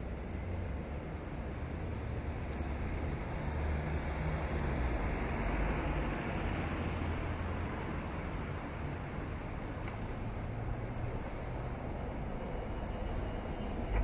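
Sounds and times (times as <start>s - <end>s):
traffic rumble: 0.1s - 14.0s.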